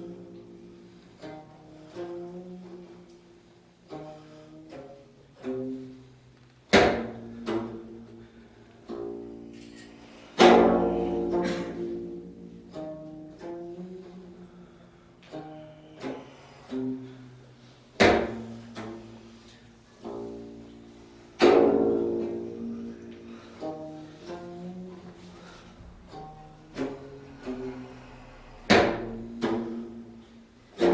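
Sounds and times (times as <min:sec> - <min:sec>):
plucked zither notes: 0:03.9 - 0:30.9.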